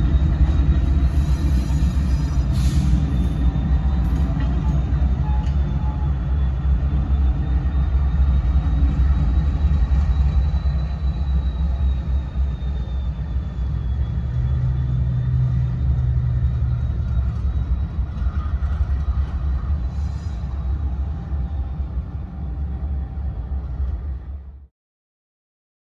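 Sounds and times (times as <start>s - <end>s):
train rumbling: 0.0s - 24.7s.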